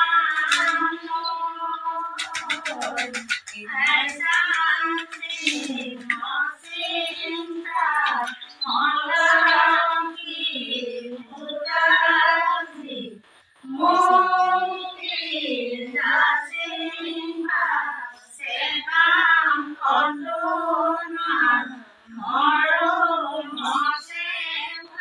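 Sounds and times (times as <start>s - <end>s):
women singing devotional chant: 0.0s - 25.0s.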